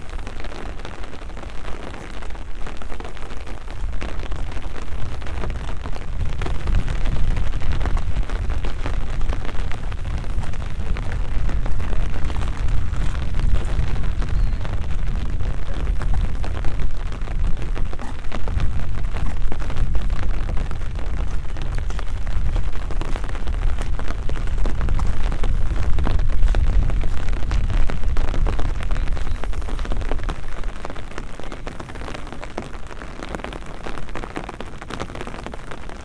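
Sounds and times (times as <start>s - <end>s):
rain pattering: 0.0s - 36.0s
wind buffeting microphone: 0.0s - 36.0s.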